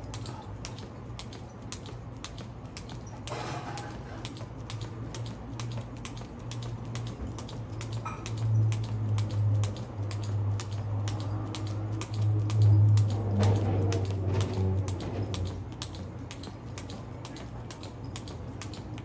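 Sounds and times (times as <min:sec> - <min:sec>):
jump rope slapping concrete: 0:00.0 - 0:19.0.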